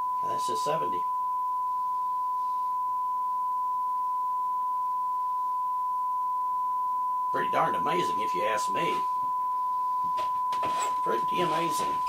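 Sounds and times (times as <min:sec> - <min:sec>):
sine test tone from loudspeaker: 0:00.0 - 0:12.0.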